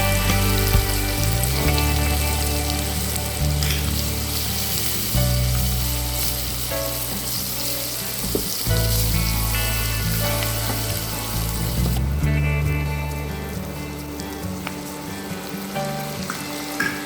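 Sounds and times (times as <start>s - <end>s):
fish sizzling in hot oil: 0.0s - 17.0s.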